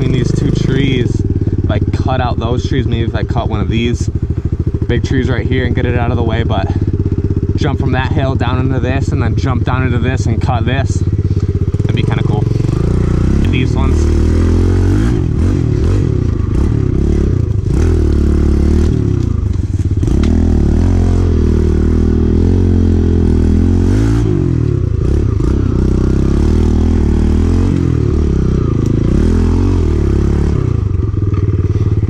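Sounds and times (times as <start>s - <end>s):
small motorcycle engine revving: 0.0s - 32.0s.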